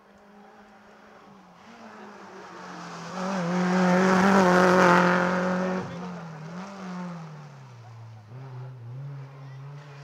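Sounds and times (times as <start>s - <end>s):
rally car engine accelerating: 0.2s - 10.0s.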